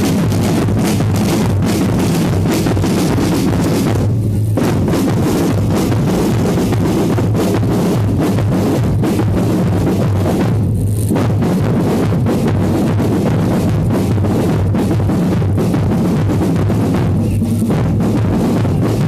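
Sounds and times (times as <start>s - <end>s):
bass drum and snare beat: 0.0s - 19.0s.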